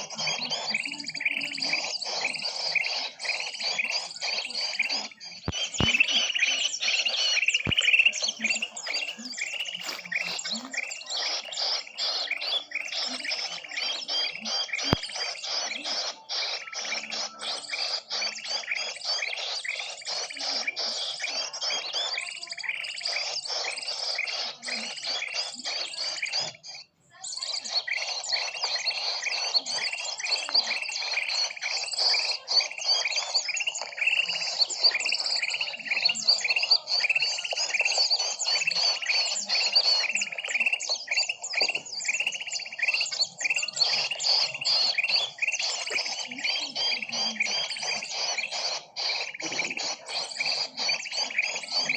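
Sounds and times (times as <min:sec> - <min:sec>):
small birds chirping and twittering: 0:00.0 - 0:51.9.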